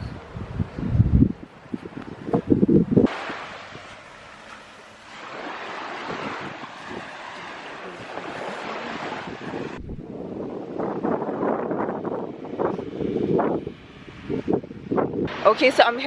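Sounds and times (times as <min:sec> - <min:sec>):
wind buffeting microphone: 0:00.0 - 0:16.0
surf washing on beach: 0:01.4 - 0:16.0.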